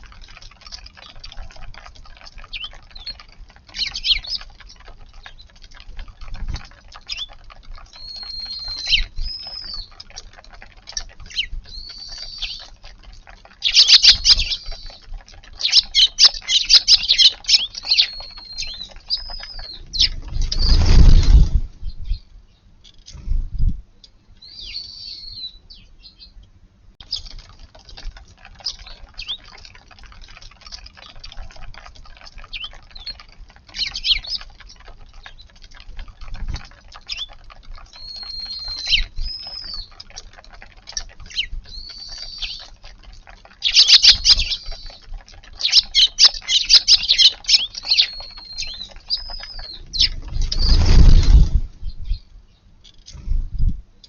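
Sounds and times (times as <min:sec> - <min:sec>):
sparrows chirping: 0:00.0 - 0:22.9, 0:24.0 - 0:53.1.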